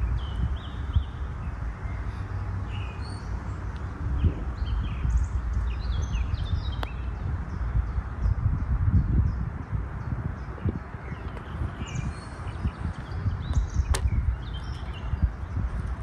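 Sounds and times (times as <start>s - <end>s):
birds chirping: 0.0s - 16.0s
wind buffeting microphone: 0.0s - 16.0s.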